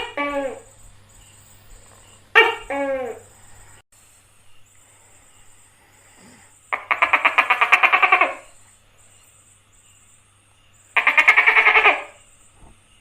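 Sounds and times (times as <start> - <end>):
gecko rattling call: 0.0 - 13.0.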